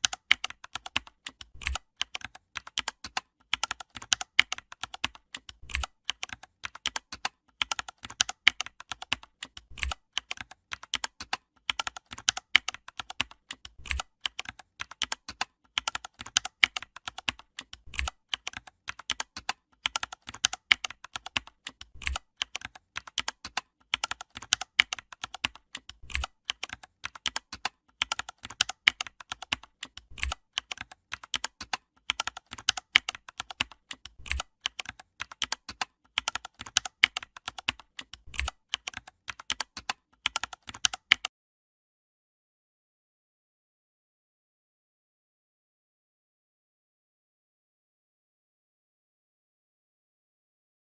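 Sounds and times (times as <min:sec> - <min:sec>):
keyboard typing clicks: 0:00.0 - 0:41.3.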